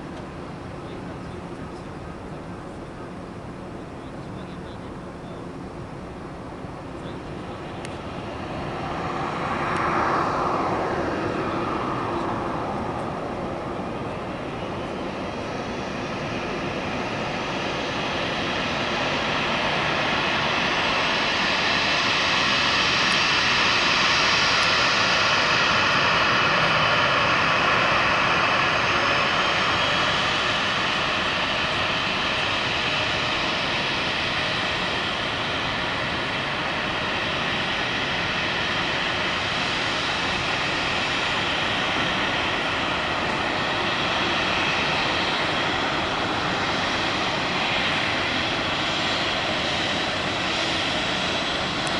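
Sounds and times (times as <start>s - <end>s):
jet engine whine: 0.0s - 51.9s.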